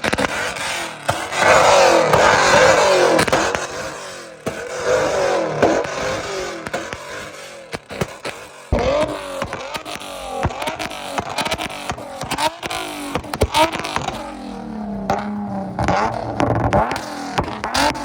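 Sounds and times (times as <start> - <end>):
car engine revving hard: 0.0 - 18.0
sharp cracks: 0.0 - 18.0.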